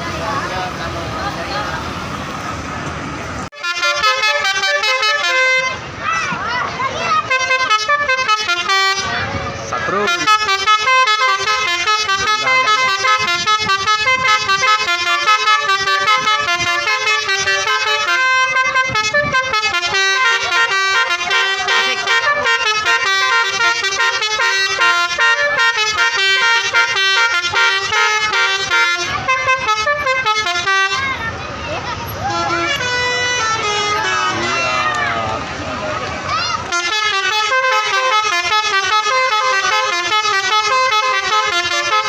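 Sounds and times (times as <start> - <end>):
bus musical horn melody: 3.5 - 6.0, 7.2 - 35.2, 36.6 - 42.0.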